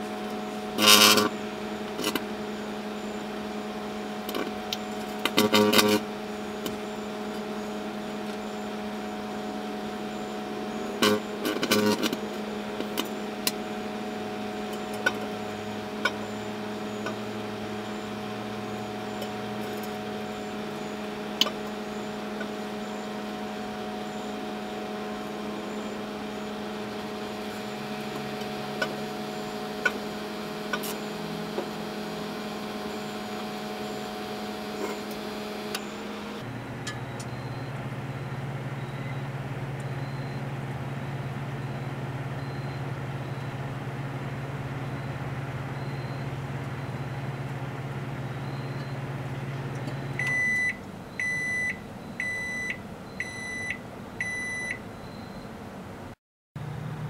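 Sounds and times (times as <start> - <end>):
microwave oven humming: 0.0 - 57.0
high microwave beeps: 2.5 - 55.6.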